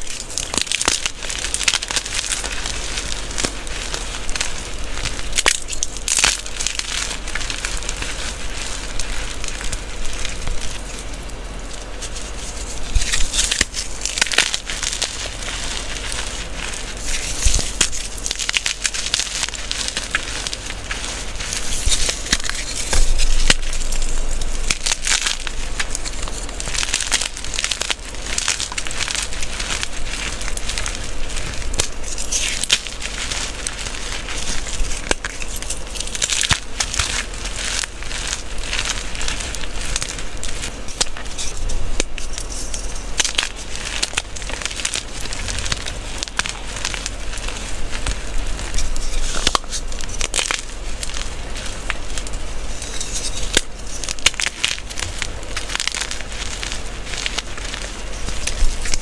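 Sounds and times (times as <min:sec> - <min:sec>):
hands crushing crumbly chalk: 0:00.0 - 0:59.0.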